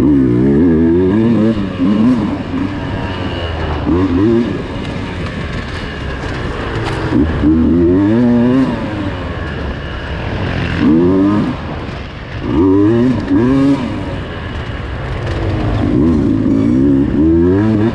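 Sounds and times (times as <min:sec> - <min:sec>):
dirt bike engine revving: 0:00.0 - 0:17.9.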